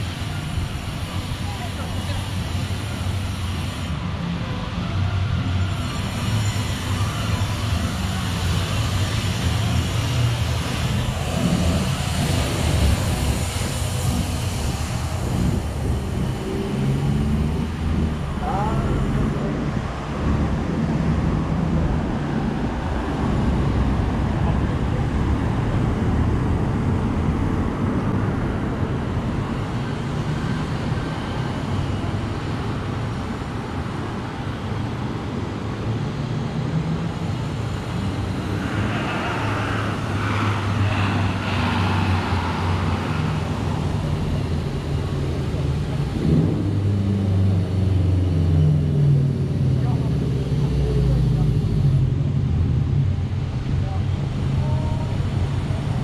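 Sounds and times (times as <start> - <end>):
road traffic rumble: 0.0 - 56.0
vehicle engine: 0.0 - 56.0.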